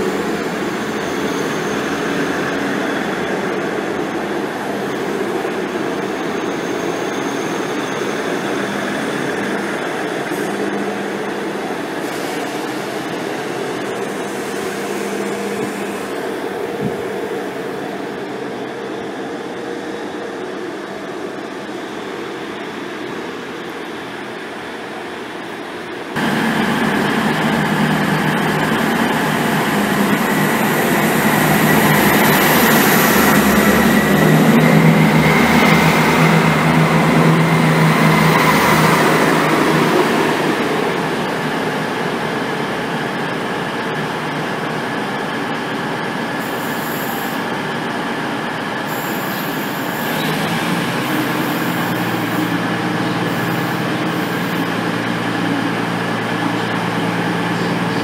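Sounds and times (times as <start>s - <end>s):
diesel train engines: 0.0s - 58.0s
steady diesel train hum: 0.0s - 58.0s.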